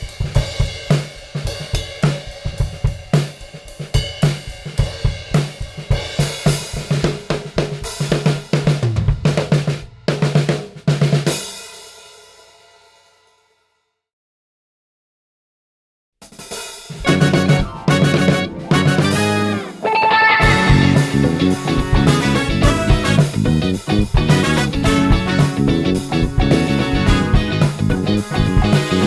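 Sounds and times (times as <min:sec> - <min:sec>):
drum kit funk groove: 0:00.0 - 0:11.8, 0:16.2 - 0:29.0
cymbals and toms fill: 0:00.0 - 0:12.5, 0:16.7 - 0:29.0.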